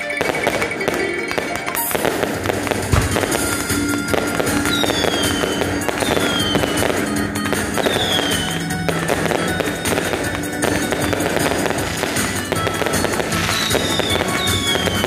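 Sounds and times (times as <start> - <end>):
falling firework whistles: 0.0 - 15.0
fireworks crackling and bursting: 0.0 - 15.0.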